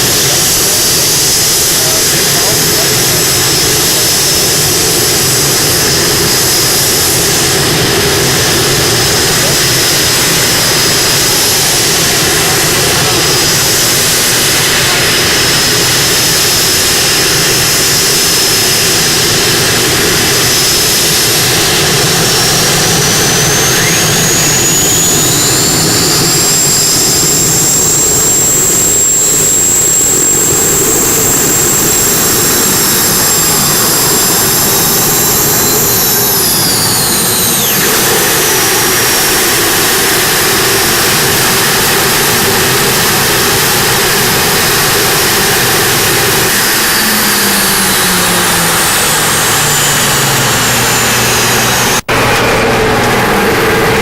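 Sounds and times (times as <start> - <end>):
tractor high whine: 0.0 - 54.0.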